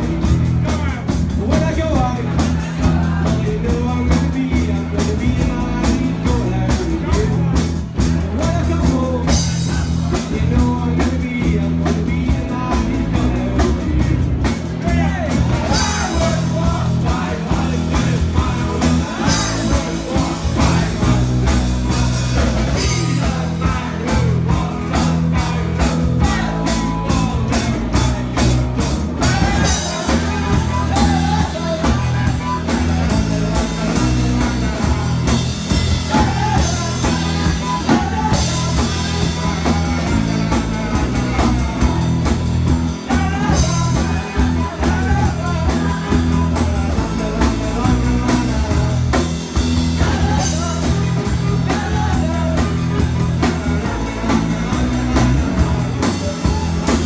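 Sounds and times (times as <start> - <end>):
drum kit beat: 0.0 - 57.0
electric guitar: 0.0 - 57.0
men singing into microphones: 0.0 - 57.0.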